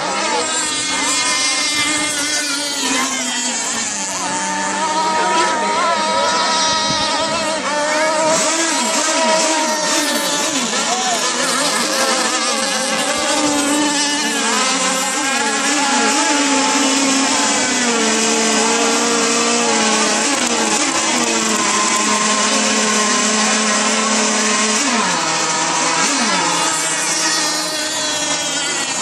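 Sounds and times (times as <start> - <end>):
model boat motors buzzing: 0.0 - 29.0.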